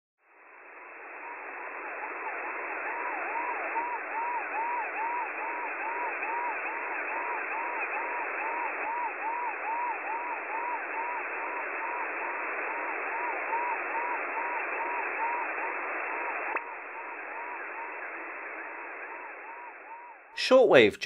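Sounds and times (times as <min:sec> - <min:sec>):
radio receiver hiss: 0:00.4 - 0:21.0
swooping siren-like jamming tone: 0:00.7 - 0:20.4.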